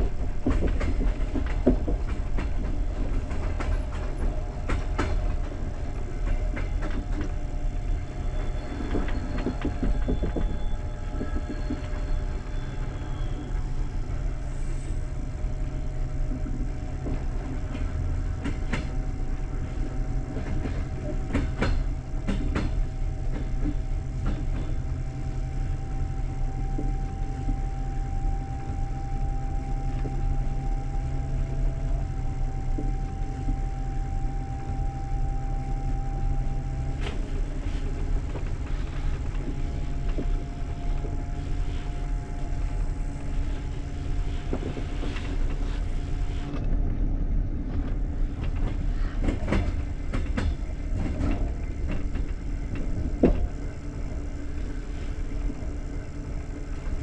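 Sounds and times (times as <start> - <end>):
faint steady whine: 0.0 - 57.0
train wheels rumbling on rails: 0.0 - 57.0.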